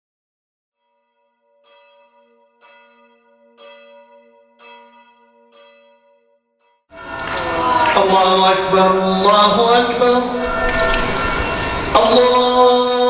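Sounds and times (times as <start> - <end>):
faint church bell tolling: 0.8 - 8.2, 9.2 - 13.0.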